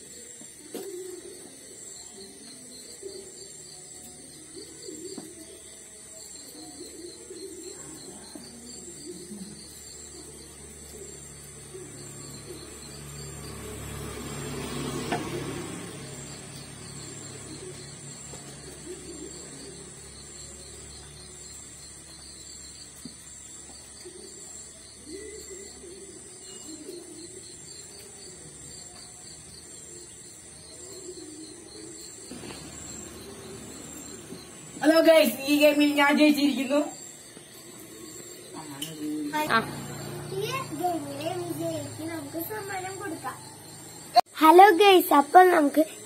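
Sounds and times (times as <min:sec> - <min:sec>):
crickets chirring: 0:00.0 - 0:46.0.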